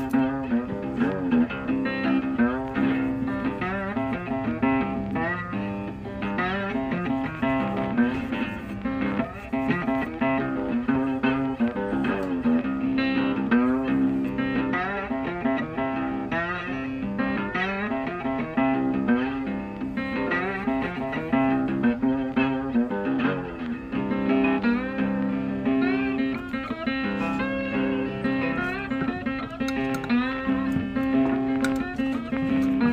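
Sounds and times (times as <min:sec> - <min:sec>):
plucked guitar melody: 0:00.0 - 0:32.9.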